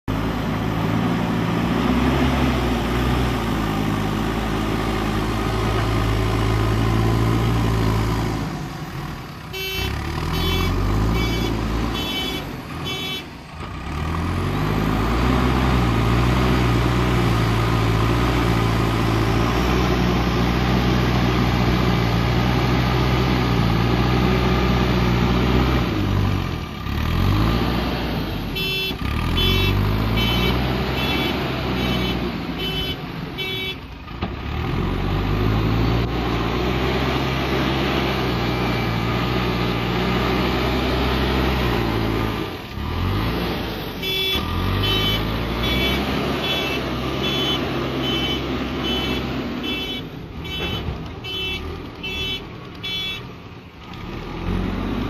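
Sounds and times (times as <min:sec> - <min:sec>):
diesel engine working under load: 0:00.0 - 0:55.0.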